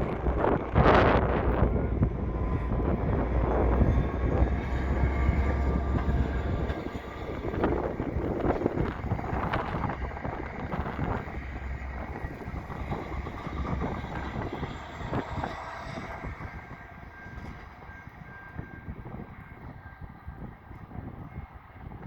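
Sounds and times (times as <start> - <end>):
train rumbling over bridge: 0.0 - 22.0.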